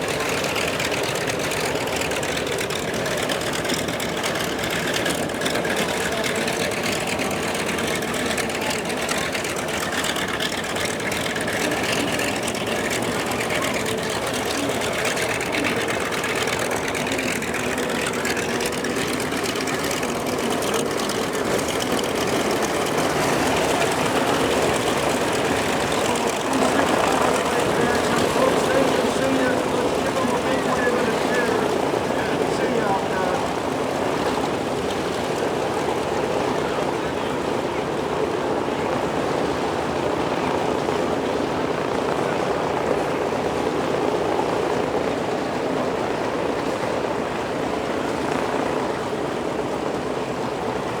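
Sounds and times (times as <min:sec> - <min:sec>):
propeller aircraft engine: 0:00.0 - 0:51.0.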